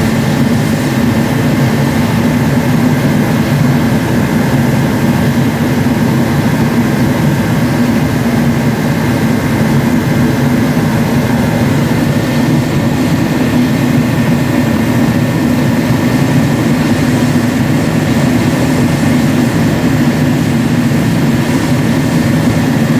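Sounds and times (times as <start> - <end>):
fan motor hum: 0.0 - 22.9
heater burner roar: 0.0 - 22.9.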